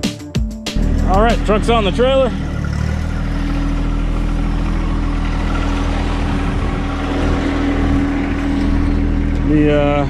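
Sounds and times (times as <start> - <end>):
vehicle engine droning: 0.8 - 10.0.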